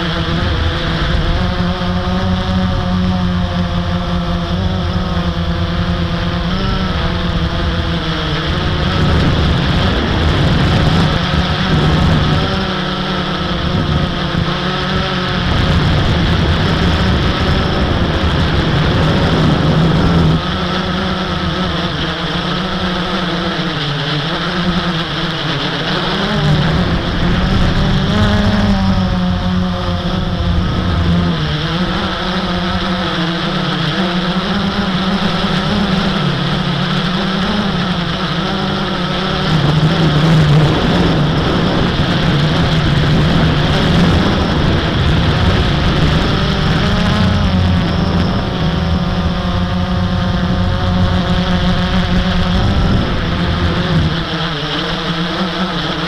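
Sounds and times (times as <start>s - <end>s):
quadcopter propellers whirring: 0.0s - 56.0s
wind noise on microphone: 0.0s - 56.0s.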